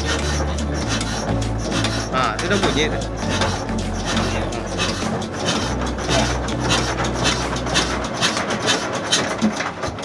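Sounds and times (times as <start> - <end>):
diesel engine clatter: 0.0 - 10.0
low engine drone: 0.0 - 10.0.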